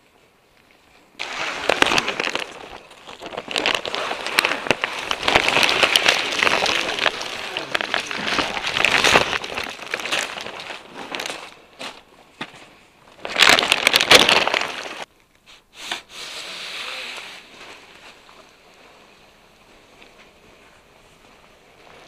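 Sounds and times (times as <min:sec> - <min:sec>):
vinyl fabric rustling and crinkling: 0:00.0 - 0:15.1, 0:16.9 - 0:22.0.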